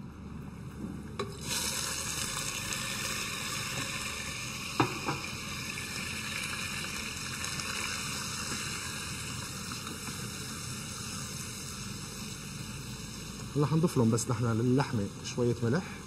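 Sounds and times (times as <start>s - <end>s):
meat sizzling in oil: 1.3s - 16.0s.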